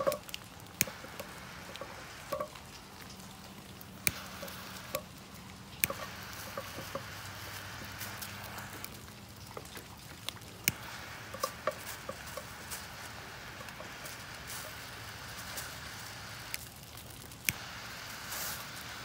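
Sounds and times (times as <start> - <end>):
torch hissing: 0.0 - 9.6, 10.2 - 19.0
powder fizzling and popping: 0.0 - 19.0.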